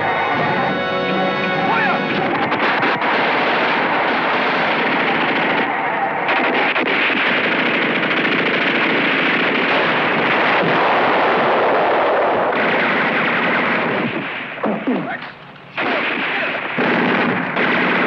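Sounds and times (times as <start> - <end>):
rifles and machine guns firing: 0.0 - 18.0.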